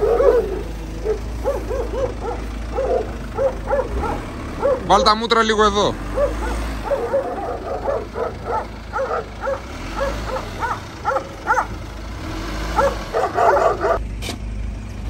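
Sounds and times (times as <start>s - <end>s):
dog barking: 0.0s - 5.2s, 6.0s - 11.8s, 12.7s - 14.0s.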